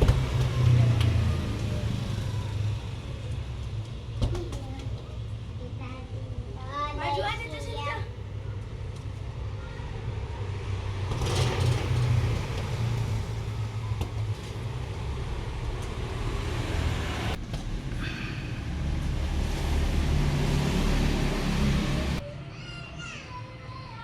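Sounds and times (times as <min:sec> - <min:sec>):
vehicle engine running: 0:00.0 - 0:22.2.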